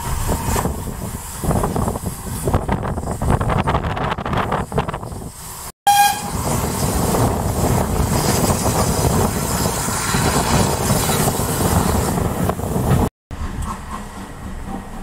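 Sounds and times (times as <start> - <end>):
wind on microphone: 0.0 - 5.4, 6.1 - 13.1
train coaches running on track: 0.0 - 15.0.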